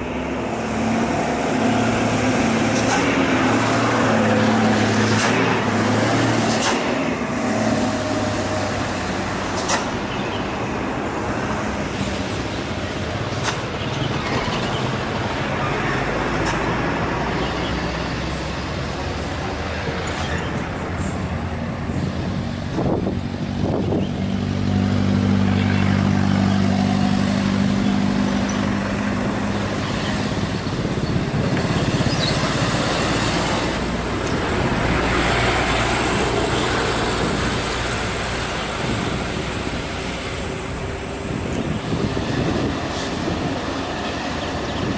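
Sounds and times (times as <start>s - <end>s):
diesel truck engine labouring: 0.0s - 44.9s.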